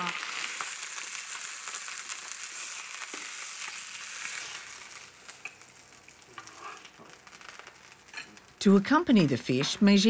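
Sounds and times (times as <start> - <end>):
fish fillets sizzling in oil: 0.0 - 9.1.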